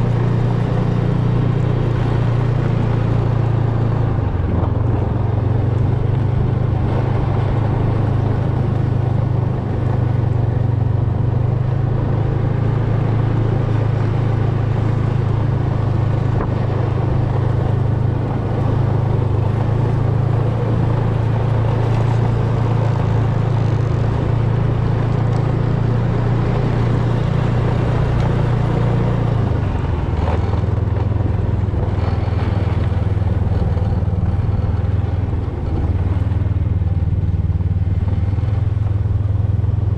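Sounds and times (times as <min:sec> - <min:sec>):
snowmobile engine drone: 0:00.0 - 0:39.9.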